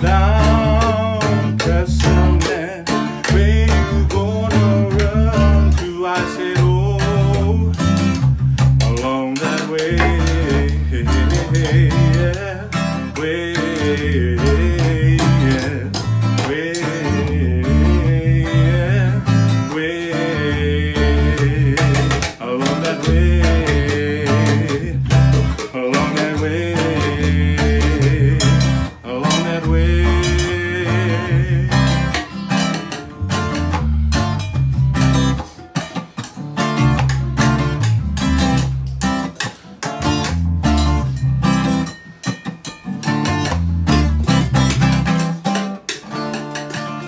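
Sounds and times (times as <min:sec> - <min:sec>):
bass line: 0:00.0 - 0:02.6, 0:03.2 - 0:05.9, 0:06.5 - 0:09.1, 0:09.8 - 0:35.4, 0:36.8 - 0:39.3, 0:40.0 - 0:41.9, 0:43.4 - 0:45.2
acoustic guitar strumming: 0:00.0 - 0:47.0
percussion hits: 0:00.0 - 0:47.0.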